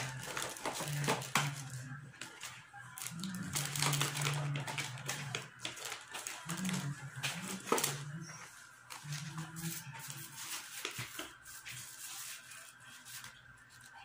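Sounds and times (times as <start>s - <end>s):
paper packaging crinkling: 0.0s - 14.0s.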